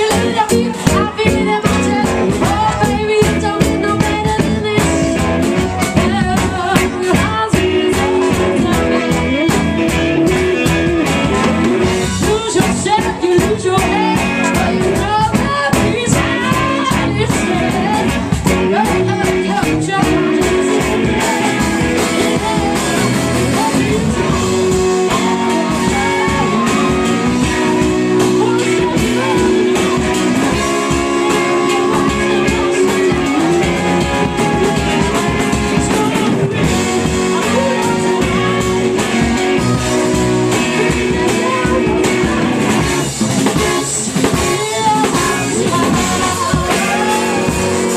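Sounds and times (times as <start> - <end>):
drums: 0.0 - 47.9
electric guitar: 0.0 - 47.9
live blues-rock band: 0.0 - 47.9
person singing: 0.0 - 47.9.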